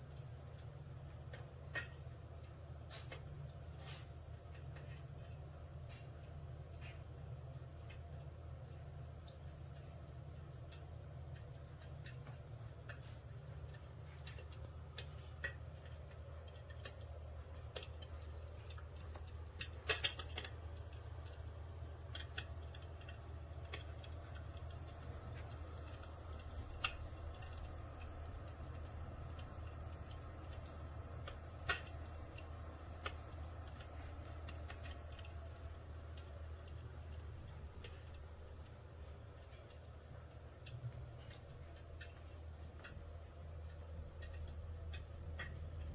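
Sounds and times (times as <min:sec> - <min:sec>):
simulated fire crackling: 0:00.0 - 0:45.9
steady low hum: 0:00.0 - 0:45.9.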